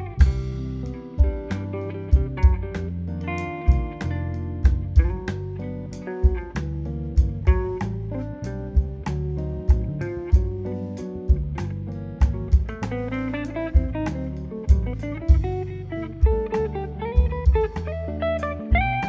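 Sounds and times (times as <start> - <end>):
double bass: 0.0 - 19.0
drum kit: 0.0 - 19.0
guitar melody: 0.0 - 19.0.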